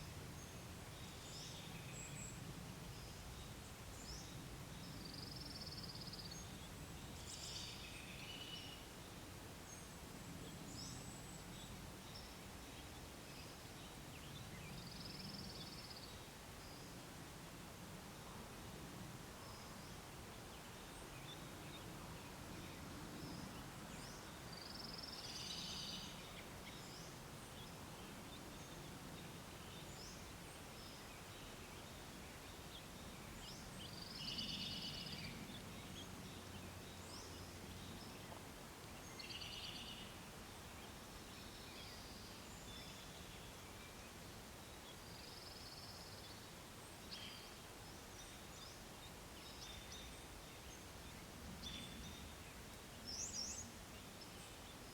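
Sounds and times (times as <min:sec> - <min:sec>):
faint outdoor ambience: 0:00.0 - 0:54.9.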